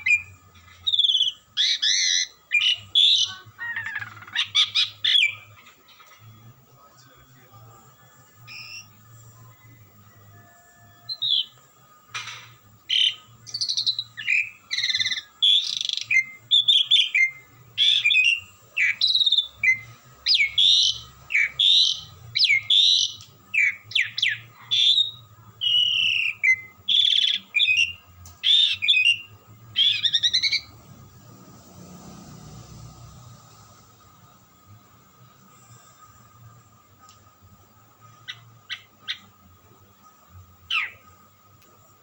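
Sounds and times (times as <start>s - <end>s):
starling singing: 0.0s - 31.0s, 37.7s - 41.4s.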